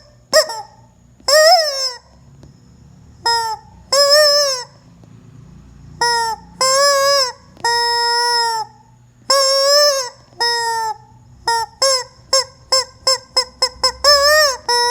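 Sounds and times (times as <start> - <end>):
rubber chicken toy squawking: 0.0 - 2.2, 3.2 - 4.8, 6.0 - 14.9.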